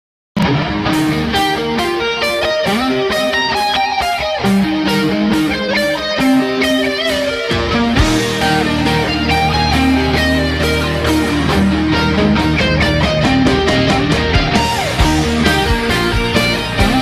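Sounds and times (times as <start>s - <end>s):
electric guitar music with beat: 0.4s - 17.0s.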